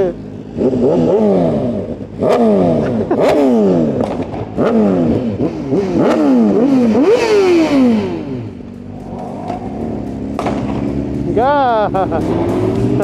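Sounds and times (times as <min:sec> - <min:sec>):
motorcycle engine revving: 0:00.0 - 0:13.0
exhaust pops: 0:02.0 - 0:13.0.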